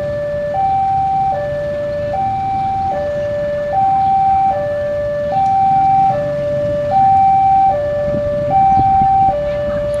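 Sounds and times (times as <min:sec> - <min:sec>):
two-tone level crossing alarm: 0:00.0 - 0:10.0.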